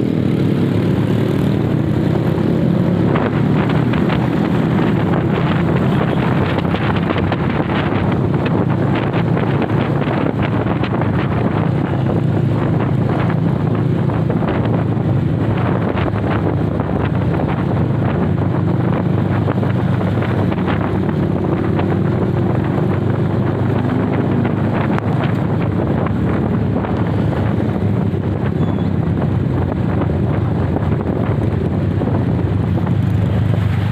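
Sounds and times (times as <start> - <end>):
motorcycle engine and road rumble: 0.0 - 33.9
wind buffeting microphone: 0.0 - 33.9.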